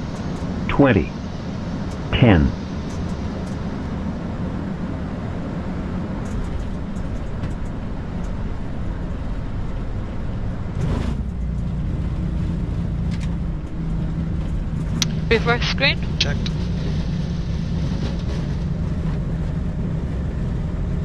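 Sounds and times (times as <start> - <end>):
jet engines humming: 0.0 - 11.6, 13.4 - 21.0.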